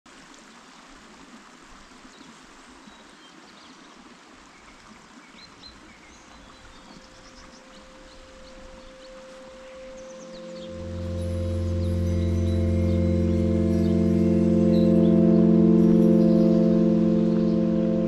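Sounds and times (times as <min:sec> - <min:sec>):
stream water flowing: 0:00.1 - 0:18.0.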